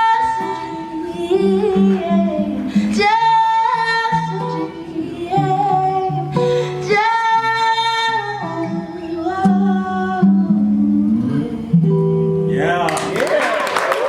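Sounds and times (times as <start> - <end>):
acoustic guitar: 0.0 - 13.2.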